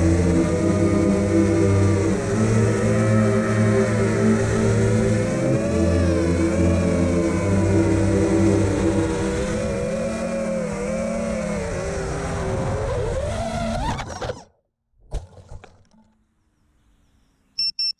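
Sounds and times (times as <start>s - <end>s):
drone motors whining: 0.0s - 14.5s.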